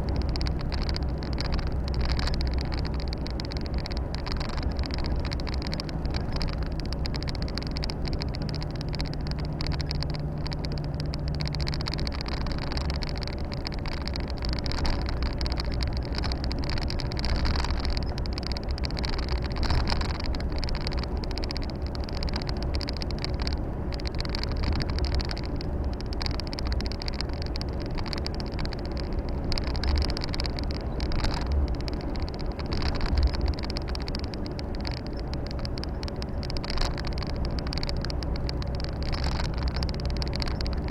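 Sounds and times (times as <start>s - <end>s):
low hum: 0.0s - 40.9s
road and tyre noise: 0.0s - 40.9s
truck engine drone: 0.0s - 40.9s.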